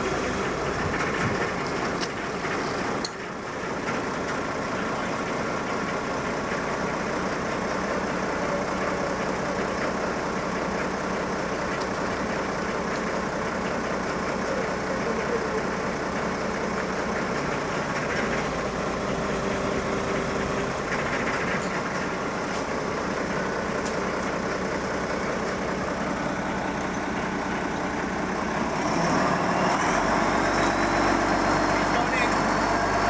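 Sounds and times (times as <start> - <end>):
large engine running: 0.0 - 33.0.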